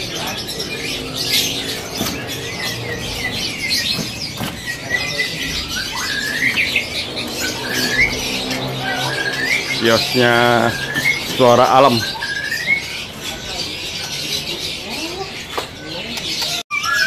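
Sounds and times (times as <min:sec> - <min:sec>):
songbirds chirping and squawking: 0:00.0 - 0:17.0.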